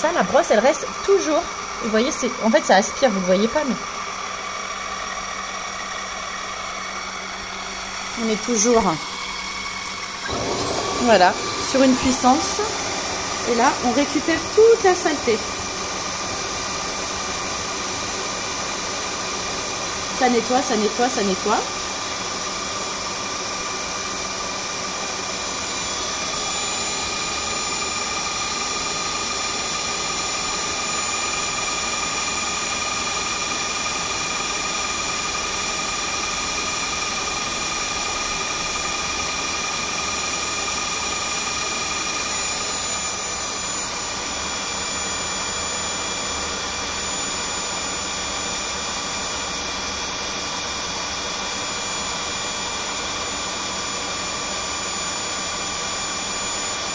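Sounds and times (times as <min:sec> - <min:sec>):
vacuum motor whining: 0:00.2 - 0:56.9.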